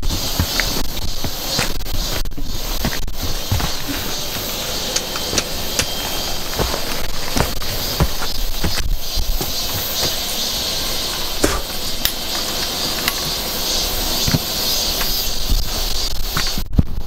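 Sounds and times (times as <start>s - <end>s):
high insect buzzing: 0.0s - 16.6s
trekking poles and boots on rock: 0.0s - 17.0s.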